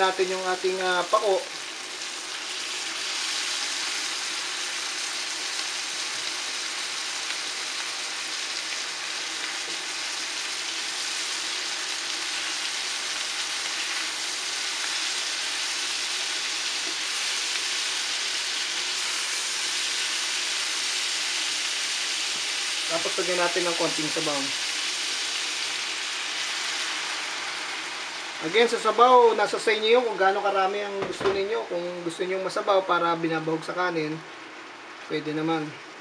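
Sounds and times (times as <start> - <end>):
food sizzling in a frying pan: 0.0 - 32.6.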